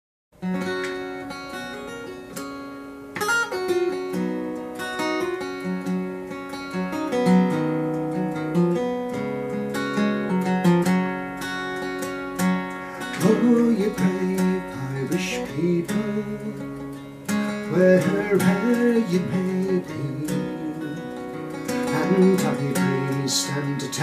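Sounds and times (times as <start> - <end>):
acoustic guitar plucked and strummed: 0.4 - 24.0.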